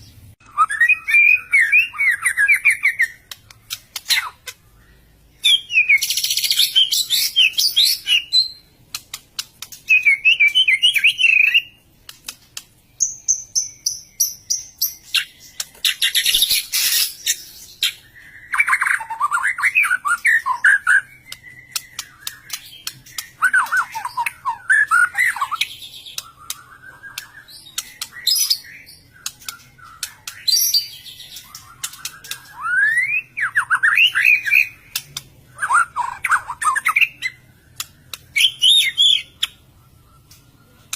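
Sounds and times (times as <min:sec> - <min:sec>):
bird singing whistles and trills: 0:00.0 - 0:08.8, 0:09.7 - 0:11.8, 0:12.9 - 0:40.9.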